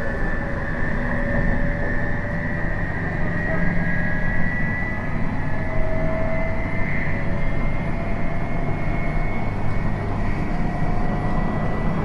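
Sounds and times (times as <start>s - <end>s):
rumble of wheels on rail: 0.0s - 12.0s
train traction motor whine: 0.0s - 12.0s.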